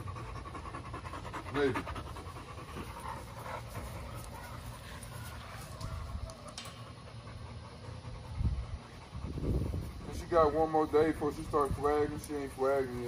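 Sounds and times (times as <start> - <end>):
dog panting: 0.0 - 5.8, 6.8 - 13.0.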